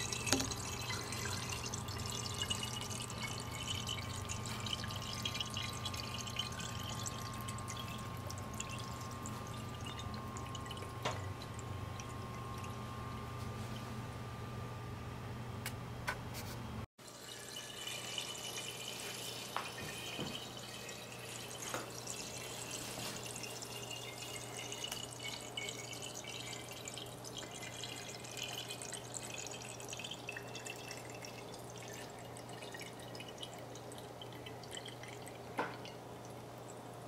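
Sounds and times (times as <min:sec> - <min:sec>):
water trickling through tube: 0:00.0 - 0:13.8, 0:17.0 - 0:36.8
faint steady hum: 0:00.0 - 0:37.0.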